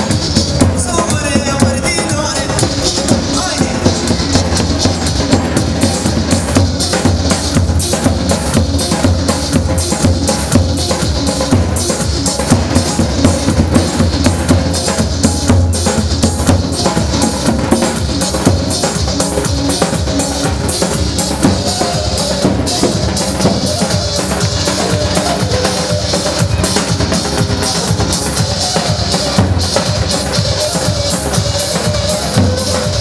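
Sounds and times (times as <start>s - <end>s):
fast steady drum beat: 0.0s - 33.0s.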